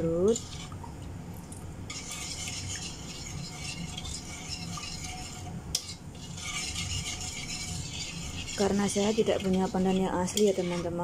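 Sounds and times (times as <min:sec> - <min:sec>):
spoon stirring simmering syrup: 0:00.1 - 0:01.2, 0:01.9 - 0:11.0.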